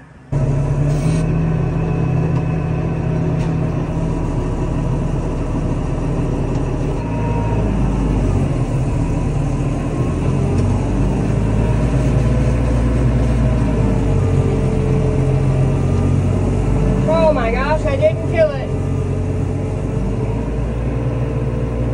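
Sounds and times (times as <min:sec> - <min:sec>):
tractor engine droning under load: 0:00.0 - 0:21.9.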